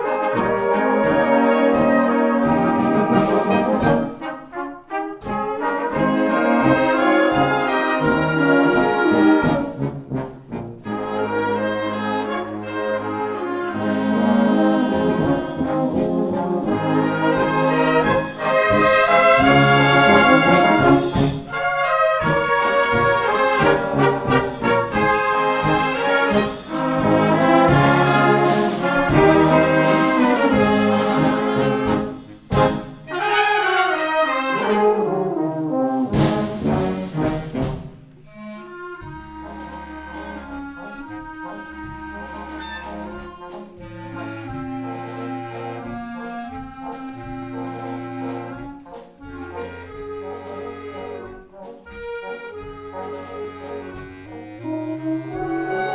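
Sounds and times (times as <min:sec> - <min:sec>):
brass band playing: 0:00.0 - 0:55.9.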